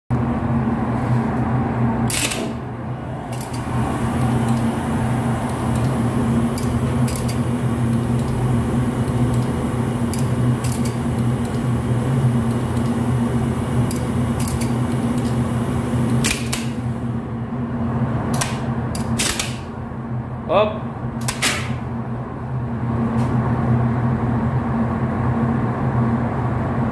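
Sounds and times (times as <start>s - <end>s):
elevator machinery hum: 0.1s - 26.9s.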